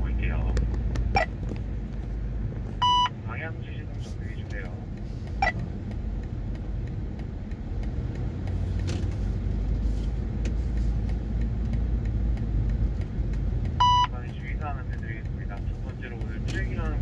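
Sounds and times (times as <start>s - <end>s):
car engine and road noise from cabin: 0.0s - 17.0s.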